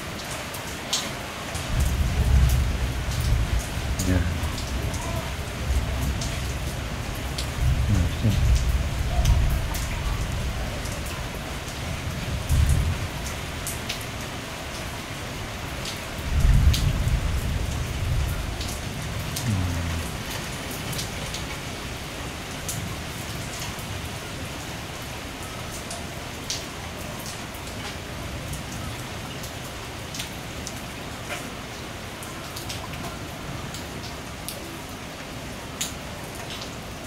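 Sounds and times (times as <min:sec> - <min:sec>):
heavy rain falling: 0:00.0 - 0:37.0
raindrops ticking on surfaces: 0:00.0 - 0:37.0.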